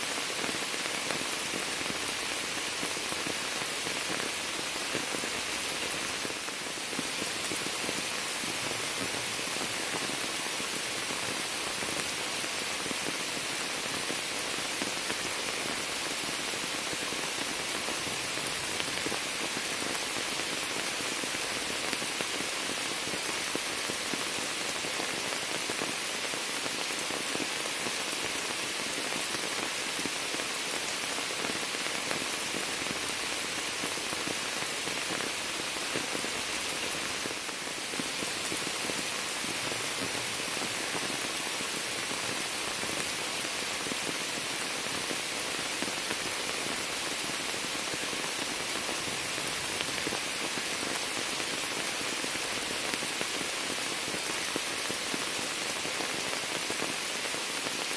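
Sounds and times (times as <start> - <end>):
rain falling on water and leaves: 0.0 - 57.9.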